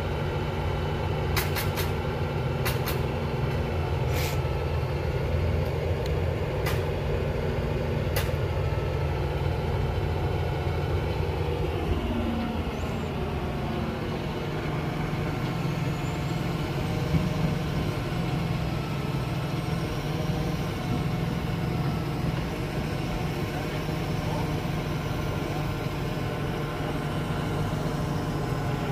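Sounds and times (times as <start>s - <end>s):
crane truck engine running: 0.0s - 28.9s.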